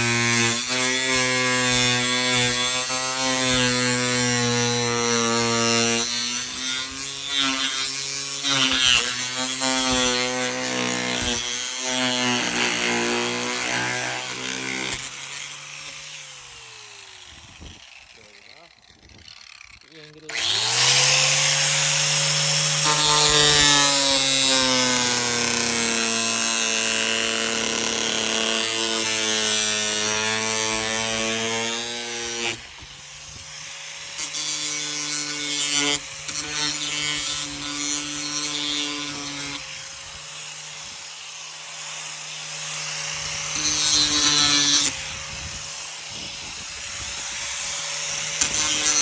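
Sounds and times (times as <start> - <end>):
angle grinder cutting metal: 0.0 - 49.0.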